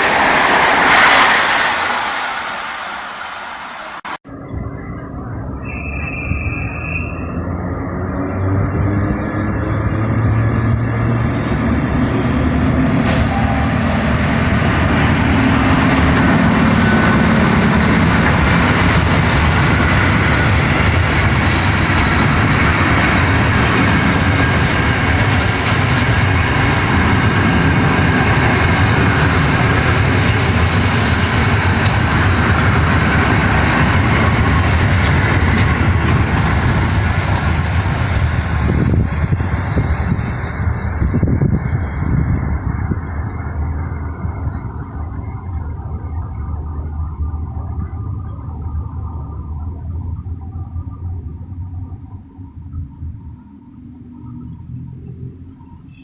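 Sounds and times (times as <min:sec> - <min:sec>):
train rumble and rail noise: 0:00.0 - 0:56.0.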